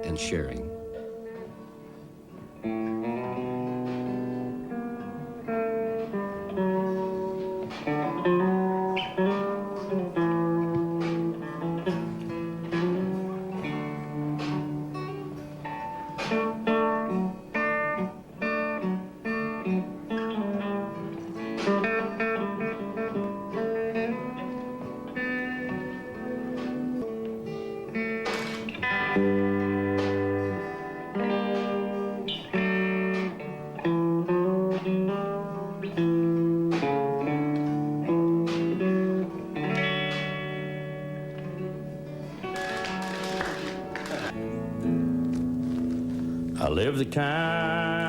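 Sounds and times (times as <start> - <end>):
guitar plucking notes and chords: 0.0 - 48.0.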